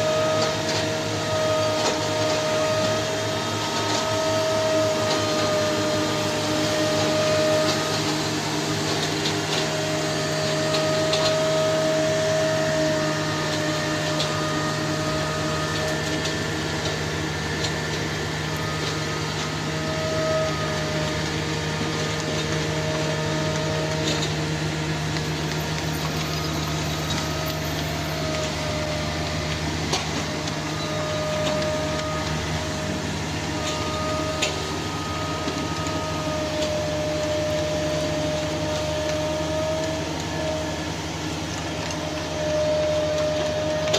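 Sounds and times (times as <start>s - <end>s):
high machine whine: 0.0s - 43.9s
machine humming: 0.0s - 43.9s.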